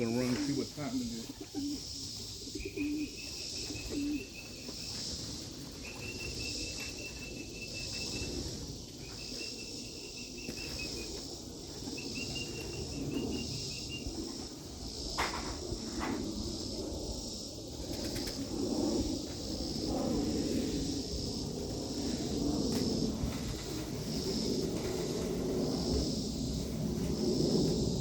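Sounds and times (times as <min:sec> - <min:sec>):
high pulsing insect buzz: 0:00.0 - 0:28.0
insects trilling: 0:00.0 - 0:28.0.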